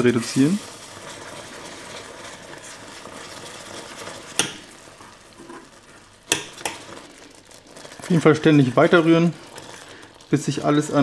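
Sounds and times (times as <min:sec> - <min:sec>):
soft sizzle: 0:00.0 - 0:11.0
spoon stirring in a saucepan: 0:00.6 - 0:11.0.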